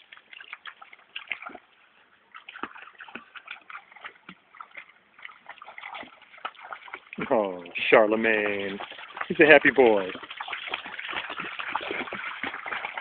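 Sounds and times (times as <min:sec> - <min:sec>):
dog splashing in water: 0:00.0 - 0:13.0.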